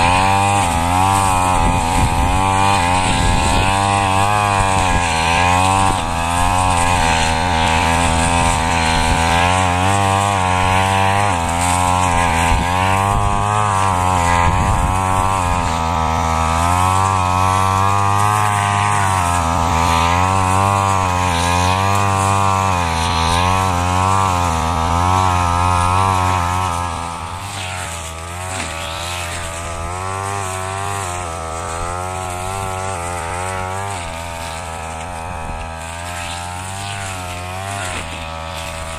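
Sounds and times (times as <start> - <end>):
brush cutter engine at high revs: 0.0 - 38.9.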